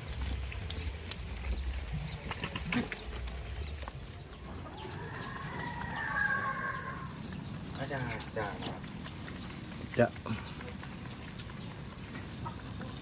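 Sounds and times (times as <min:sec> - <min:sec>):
farm animal call: 0:00.0 - 0:13.0.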